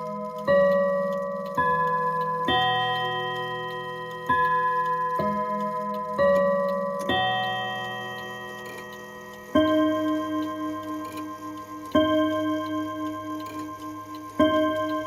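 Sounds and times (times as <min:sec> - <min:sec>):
clock ticking: 0:00.0 - 0:15.0
mantel clock chime notes: 0:00.0 - 0:15.0.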